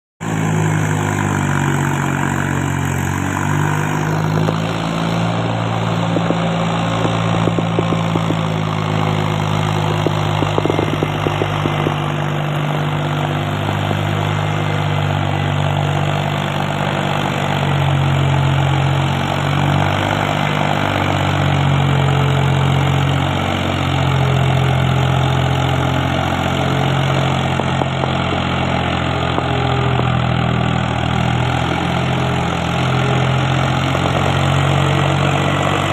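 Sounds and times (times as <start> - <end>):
tractor diesel engine running: 0.2 - 35.9.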